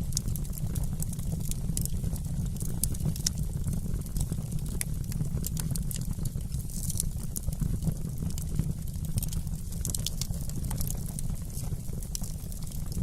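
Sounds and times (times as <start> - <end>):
low fire rumble: 0.0 - 13.0
wood fire crackling: 0.0 - 13.0.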